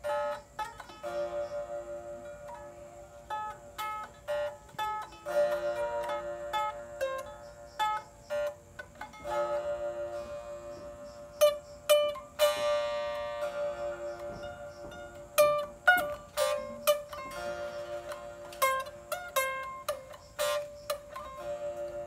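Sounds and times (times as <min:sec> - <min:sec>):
plucked lute melody: 0:00.0 - 0:22.0.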